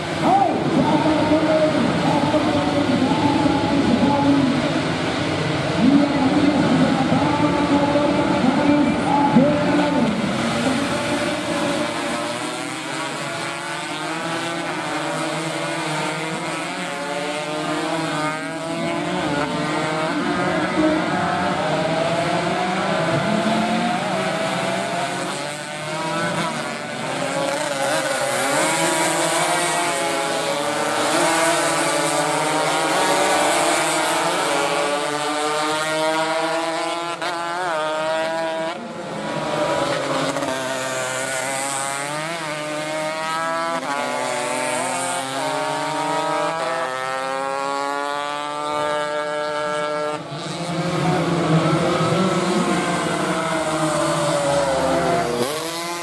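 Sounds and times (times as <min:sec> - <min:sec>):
racing motorcycles revving: 0:00.0 - 0:56.0.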